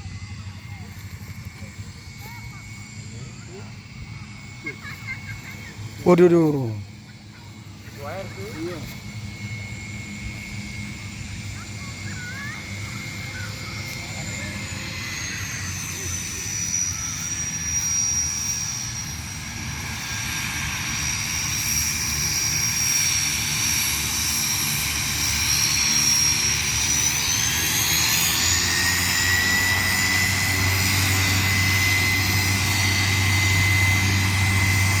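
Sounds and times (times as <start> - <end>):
propeller hum: 0.0 - 35.0
turboprop turbine whine: 0.0 - 35.0.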